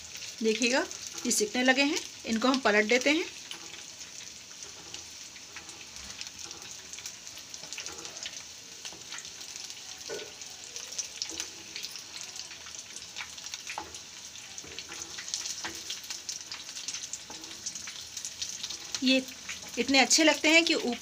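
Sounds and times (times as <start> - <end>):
oil sizzling and crackling: 0.0 - 21.0
spatula stirring in oil: 0.0 - 21.0.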